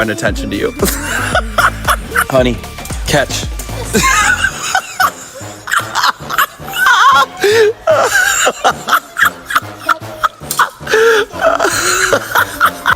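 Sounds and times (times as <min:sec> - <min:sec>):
background music with steady beat: 0:00.0 - 0:12.9.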